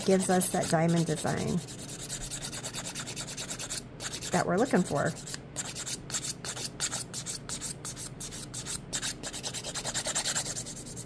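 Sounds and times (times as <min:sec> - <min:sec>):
nail file rasping: 0:00.0 - 0:04.4, 0:05.2 - 0:11.0.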